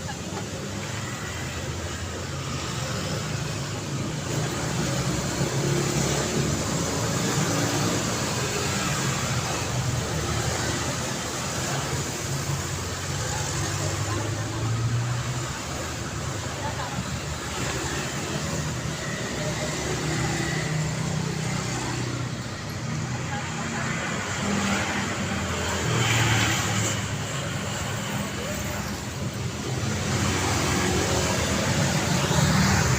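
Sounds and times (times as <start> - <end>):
cars passing: 0.0 - 32.9.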